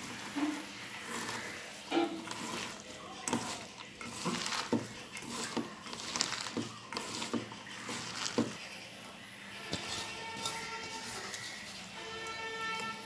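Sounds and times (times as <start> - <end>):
hands mixing wet vegetables: 0.0 - 13.0.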